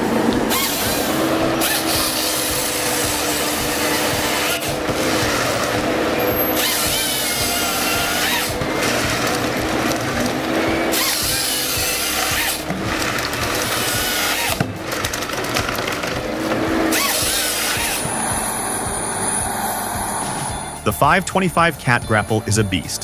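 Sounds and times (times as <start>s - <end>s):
forestry machinery running: 0.0s - 23.0s.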